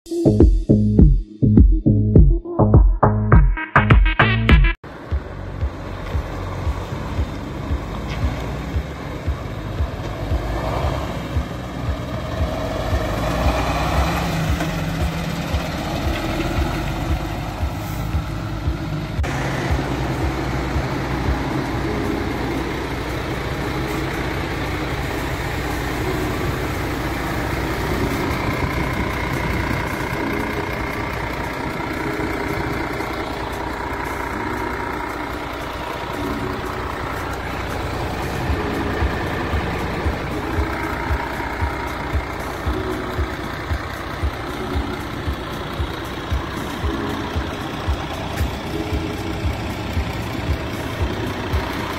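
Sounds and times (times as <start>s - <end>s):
diesel truck engine: 4.2s - 51.9s.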